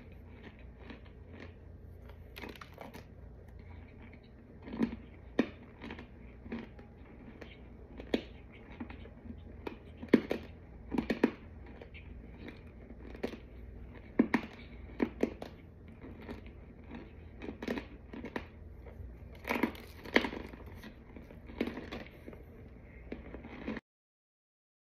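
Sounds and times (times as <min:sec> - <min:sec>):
person crunch-chewing: 0:00.0 - 0:23.8.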